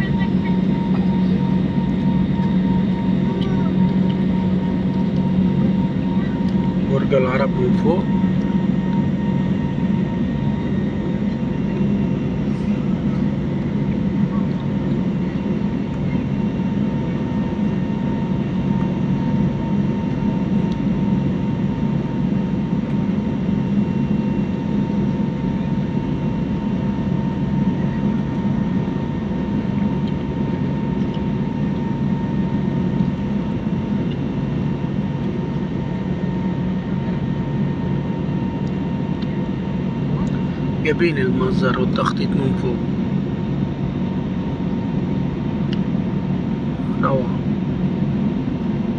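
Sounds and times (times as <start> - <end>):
airliner engines droning in cabin: 0.0 - 48.9
faint steady whining tones: 0.0 - 48.9.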